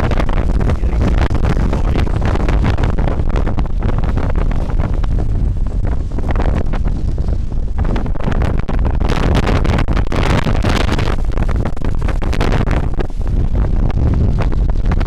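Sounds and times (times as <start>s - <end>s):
strong wind blasting microphone: 0.0s - 15.0s.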